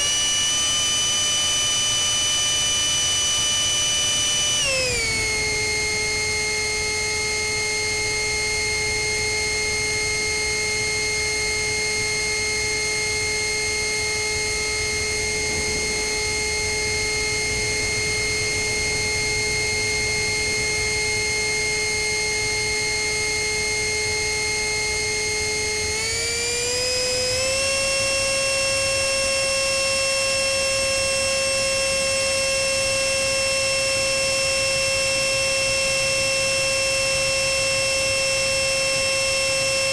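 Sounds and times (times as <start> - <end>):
electric ducted fan whining: 0.0 - 39.9.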